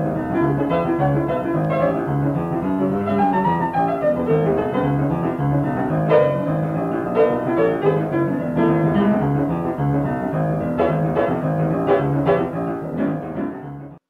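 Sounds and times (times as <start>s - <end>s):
boogie-woogie piano: 0.0s - 14.0s.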